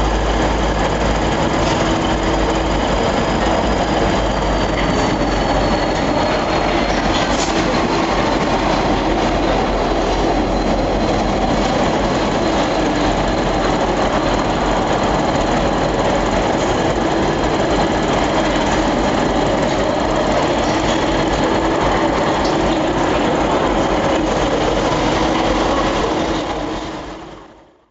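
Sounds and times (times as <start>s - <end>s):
train rumble and rattle: 0.0s - 27.9s.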